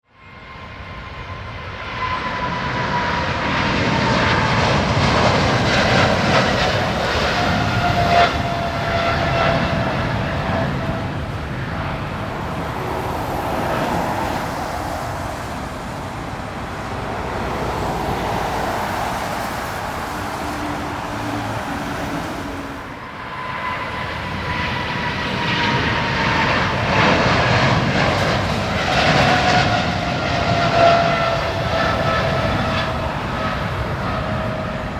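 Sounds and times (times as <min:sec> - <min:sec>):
jet engine roar with whine: 0:00.0 - 0:34.9.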